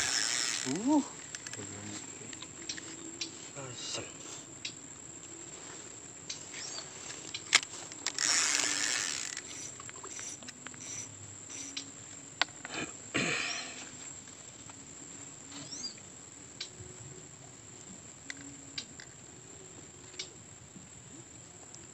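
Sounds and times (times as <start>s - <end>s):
high-pitched insect drone: 0.0s - 20.8s.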